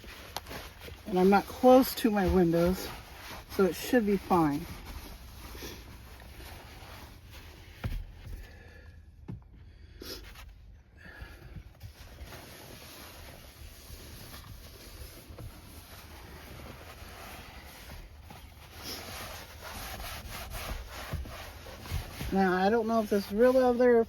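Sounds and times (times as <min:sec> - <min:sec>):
cloth wiping and rubbing: 0:00.0 - 0:08.1, 0:11.8 - 0:24.0.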